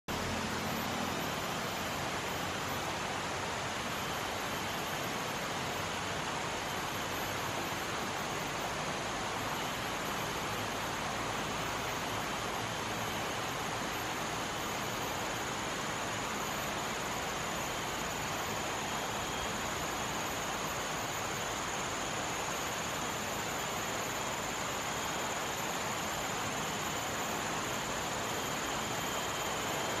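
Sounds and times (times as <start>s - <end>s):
steady hiss: 0.1s - 30.0s.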